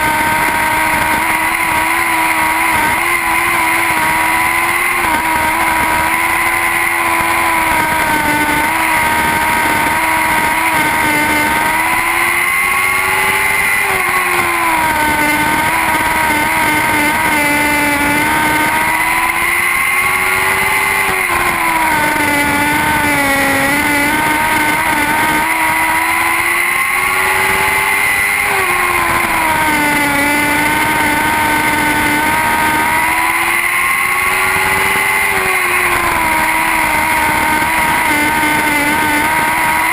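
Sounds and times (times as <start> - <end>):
high-revving motorcycle engines: 0.0 - 39.9.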